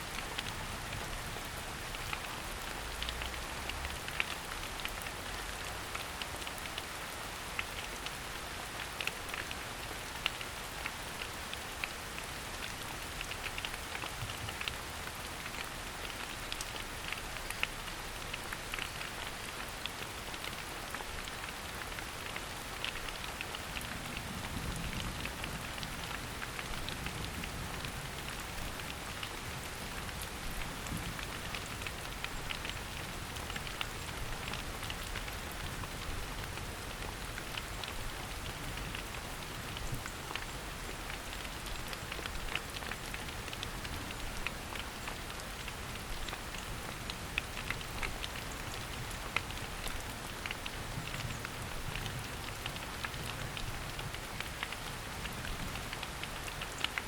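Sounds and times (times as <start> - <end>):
rain dripping in forest: 0.0 - 57.0.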